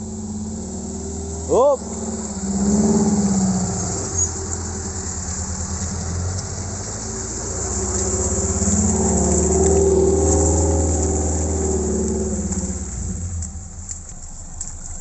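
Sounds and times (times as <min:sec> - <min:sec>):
off-road vehicle engine: 0:00.0 - 0:15.0.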